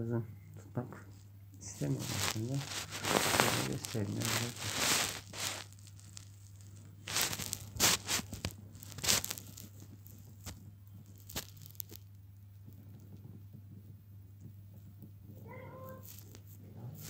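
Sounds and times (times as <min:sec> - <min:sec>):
rustles and scrapes: 0:01.0 - 0:13.4, 0:14.4 - 0:17.0.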